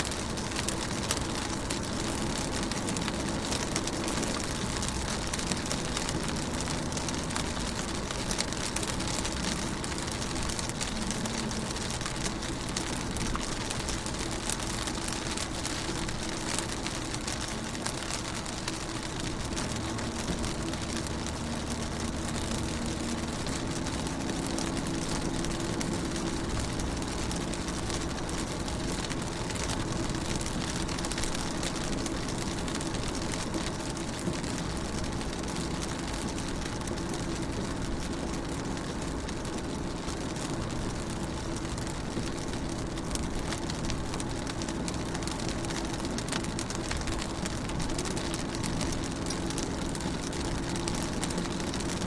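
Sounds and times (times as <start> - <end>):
rain on car windows: 0.0 - 52.0.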